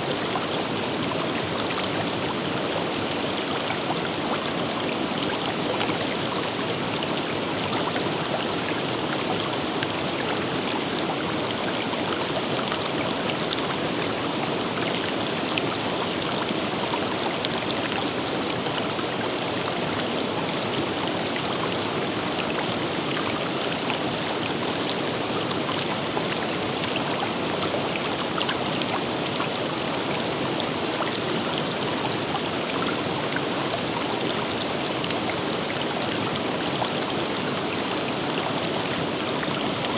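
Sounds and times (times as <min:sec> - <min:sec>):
river rushing water: 0:00.0 - 0:39.9.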